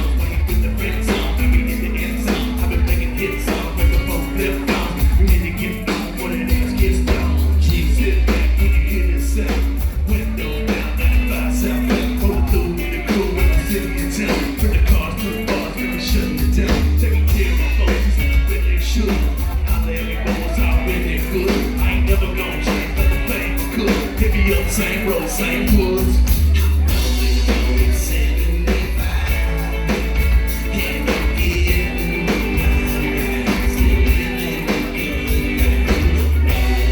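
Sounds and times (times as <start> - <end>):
drums steady beat: 0.0 - 36.9
live band playing: 0.0 - 36.9.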